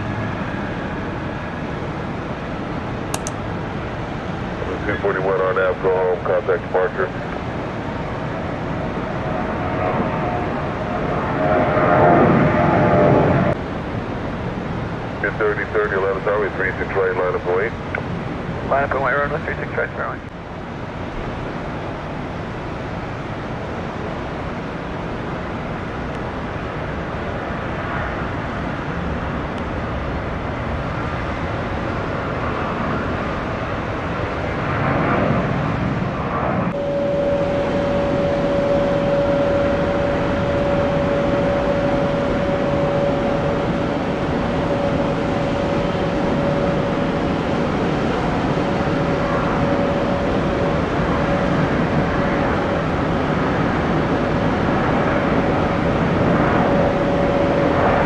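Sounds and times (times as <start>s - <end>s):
jet engine whine: 0.0s - 58.0s
jet engines rushing: 0.0s - 58.0s.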